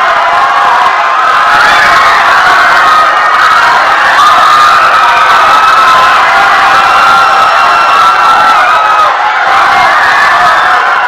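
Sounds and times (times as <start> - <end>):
crowd screaming in panic: 0.0 - 11.0.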